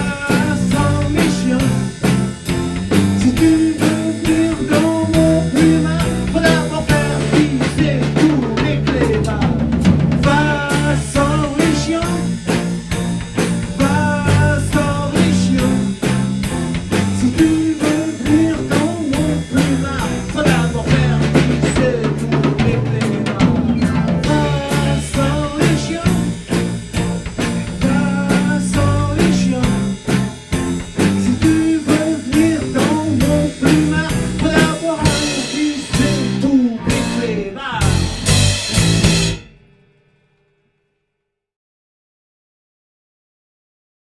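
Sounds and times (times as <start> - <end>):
live band playing: 0.0 - 39.6.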